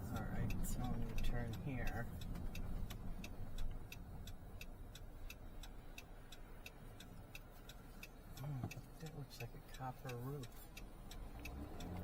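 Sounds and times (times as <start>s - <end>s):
car rumble in motion: 0.0s - 12.0s
car turn signal ticking: 0.0s - 12.0s.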